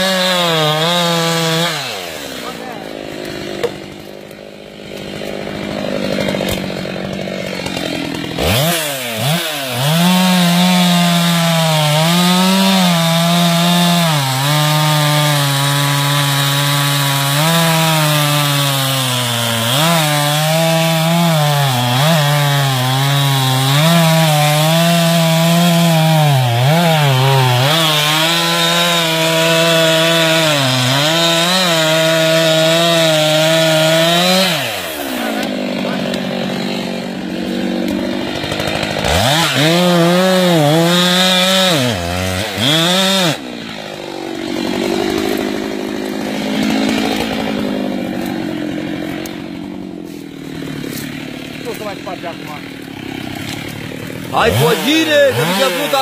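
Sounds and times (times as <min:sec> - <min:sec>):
chainsaw cutting into tree trunk: 0:00.0 - 0:56.0.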